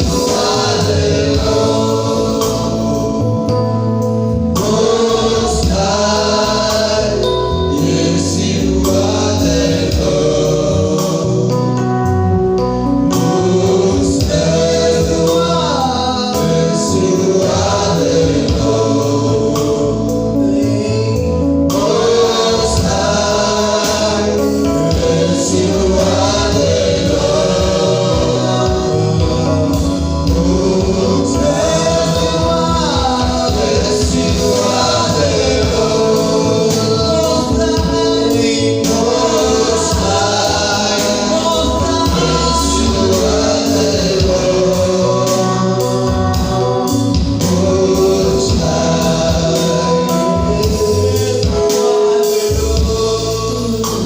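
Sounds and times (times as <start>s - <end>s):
choir singing gospel music: 0.0s - 54.0s.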